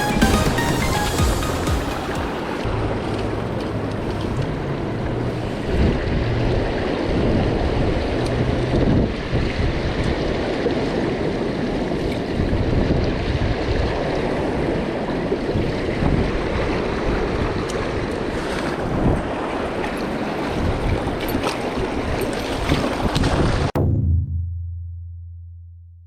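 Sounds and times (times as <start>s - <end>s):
river water rushing: 0.0s - 8.5s, 9.6s - 23.2s
wind buffeting microphone: 2.6s - 23.8s.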